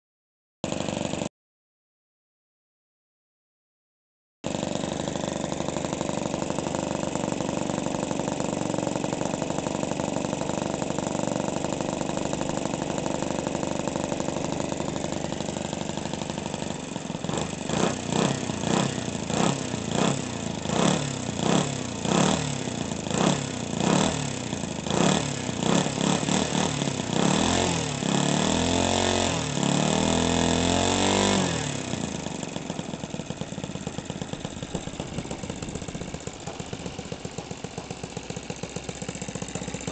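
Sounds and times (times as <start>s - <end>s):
model aircraft engine revving: 0.7s - 1.3s, 4.5s - 39.9s.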